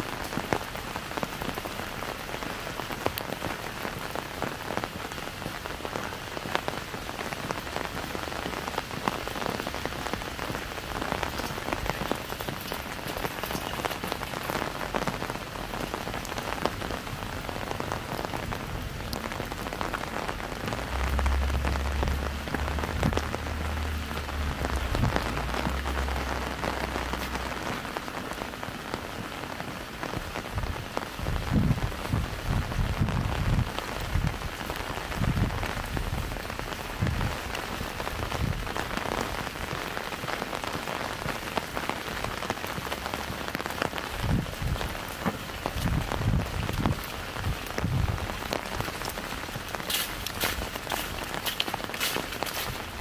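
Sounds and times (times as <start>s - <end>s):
rain on an umbrella: 0.0s - 53.0s.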